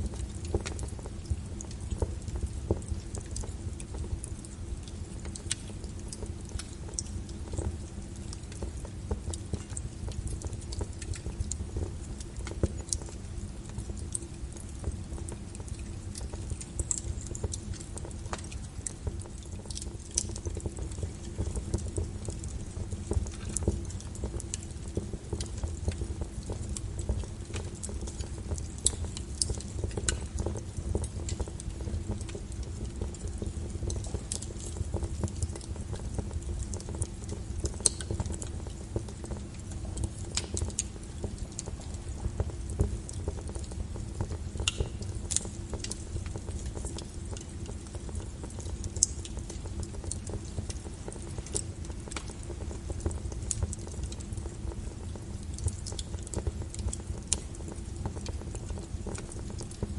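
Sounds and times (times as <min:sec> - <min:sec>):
log fire crackling and popping: 0:00.0 - 0:59.9
low fire rumble: 0:00.0 - 0:59.9.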